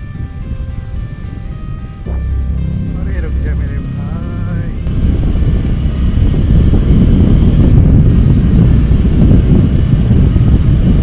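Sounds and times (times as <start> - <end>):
wind buffeting microphone: 0.0 - 11.0
motorcycle engine accelerating: 1.9 - 11.0.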